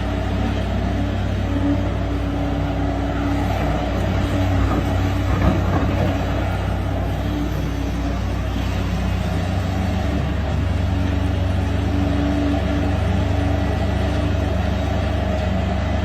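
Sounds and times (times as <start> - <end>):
large engine droning: 0.0 - 16.0.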